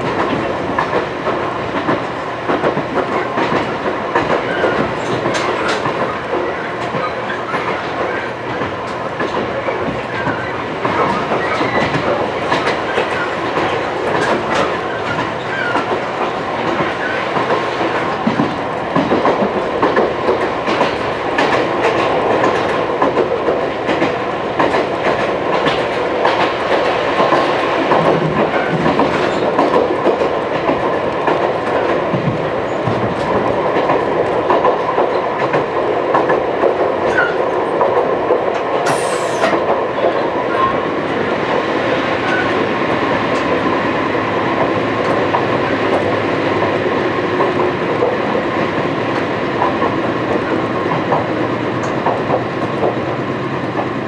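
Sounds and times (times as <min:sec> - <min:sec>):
train rolling rumble: 0:00.0 - 0:54.0
wheels clacking over rail joints: 0:00.0 - 0:54.0.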